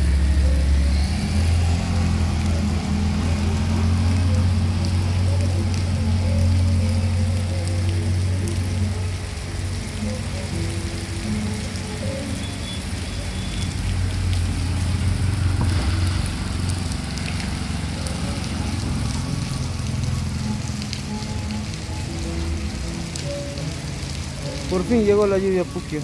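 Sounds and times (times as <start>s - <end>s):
heavy rain on pavement: 0.0s - 26.0s.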